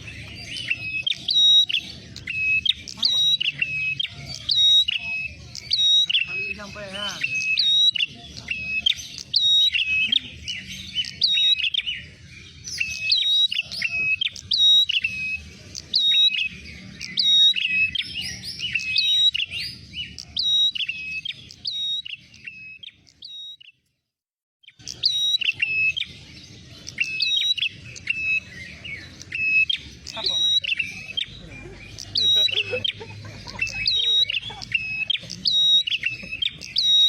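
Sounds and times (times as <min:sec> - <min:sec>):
songbird sharp repeated chirping: 0:00.0 - 0:37.0.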